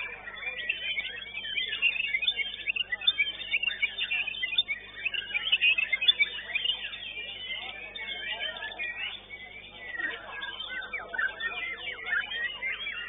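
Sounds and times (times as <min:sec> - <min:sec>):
bird singing chirps and whistles: 0:00.0 - 0:13.0.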